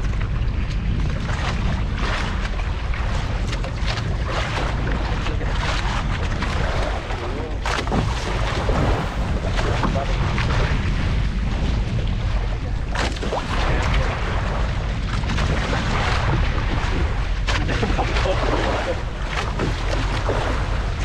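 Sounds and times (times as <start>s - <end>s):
steady low rumble: 0.0s - 21.0s
water sloshing: 0.0s - 21.0s
wind buffeting microphone: 0.0s - 21.0s.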